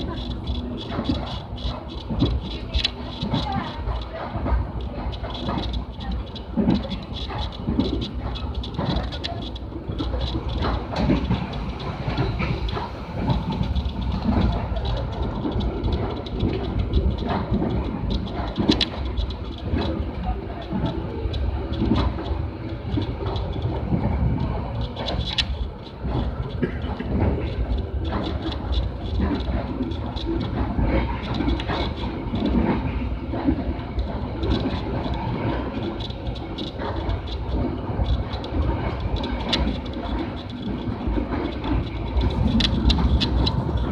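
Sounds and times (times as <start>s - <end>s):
train rumbling on rails: 0.0s - 43.9s
wheels clicking over track: 0.0s - 43.9s.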